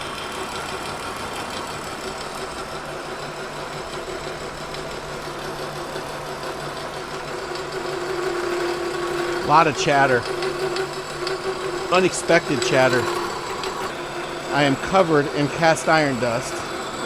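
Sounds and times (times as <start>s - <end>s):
milling machine cutting with chatter: 0.0s - 17.0s.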